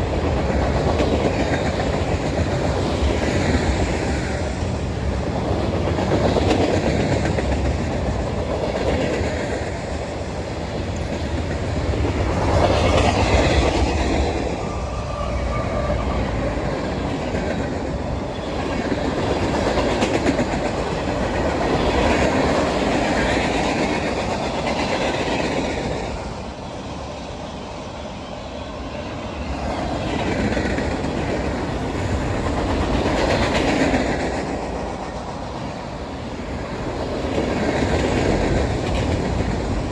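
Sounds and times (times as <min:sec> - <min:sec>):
train rolling past: 0:00.0 - 0:39.9.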